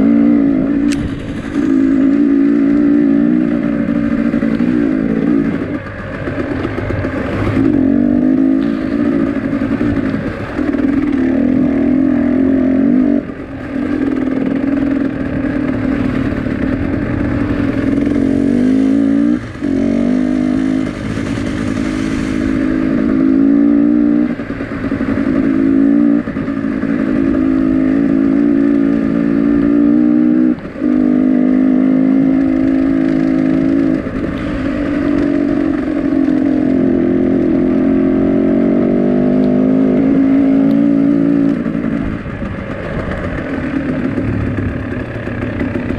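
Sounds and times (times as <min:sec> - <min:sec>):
engine running at high revs: 0:00.0 - 0:45.9.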